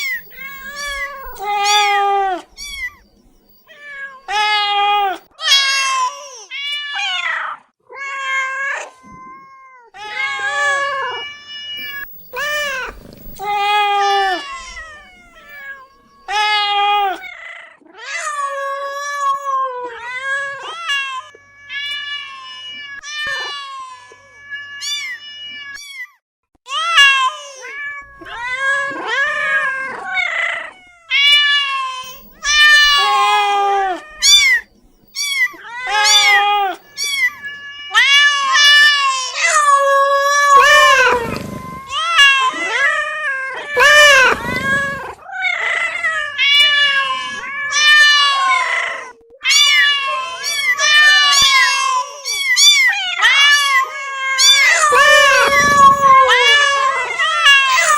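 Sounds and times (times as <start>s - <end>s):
cat meowing: 0.0s - 57.9s.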